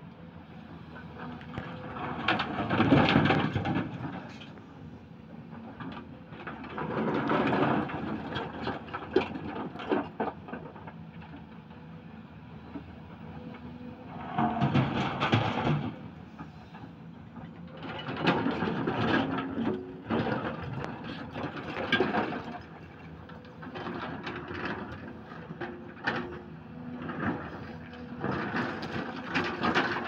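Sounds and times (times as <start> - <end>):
excavator engine running: 0.1 - 30.0.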